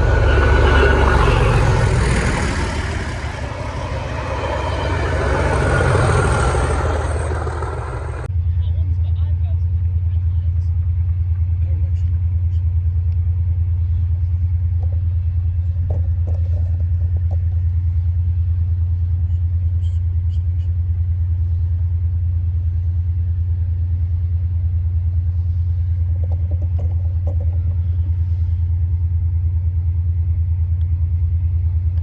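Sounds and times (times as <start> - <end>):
diesel locomotive engine rumbling: 0.0 - 32.0.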